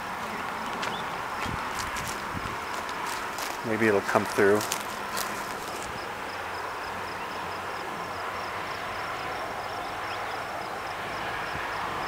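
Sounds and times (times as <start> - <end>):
open-air rushing ambience: 0.0 - 12.0.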